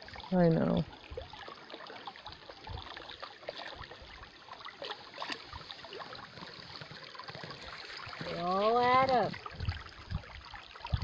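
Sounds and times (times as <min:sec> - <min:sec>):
water and gravel sloshing in pan: 0:00.0 - 0:11.0.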